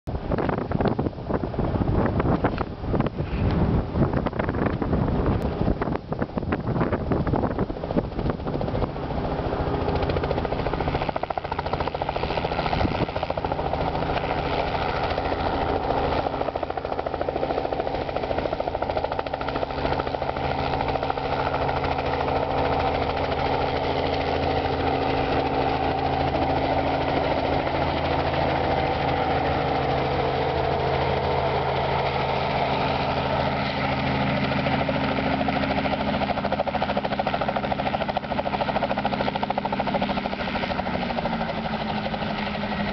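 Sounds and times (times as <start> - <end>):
helicopter engine and rotor: 0.1 - 42.9.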